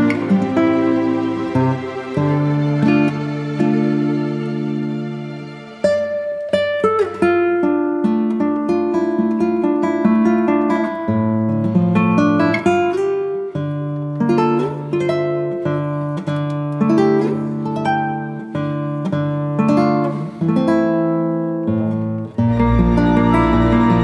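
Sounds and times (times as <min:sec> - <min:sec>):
plucked acoustic guitar: 0:00.0 - 0:24.0.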